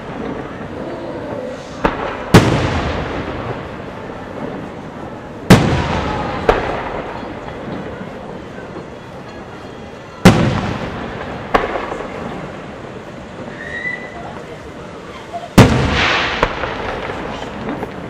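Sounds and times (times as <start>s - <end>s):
firework sharp crack: 0.0s - 9.0s, 10.2s - 18.0s
firework shells booming: 0.0s - 13.7s, 15.5s - 18.0s.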